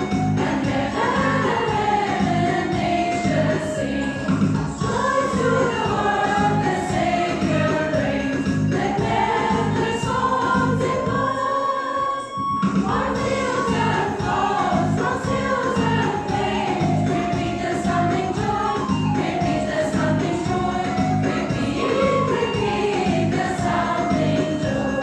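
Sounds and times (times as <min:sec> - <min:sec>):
rhythmic accompaniment beat: 0:00.0 - 0:11.6, 0:12.3 - 0:25.0
choir singing a hymn: 0:00.0 - 0:25.0.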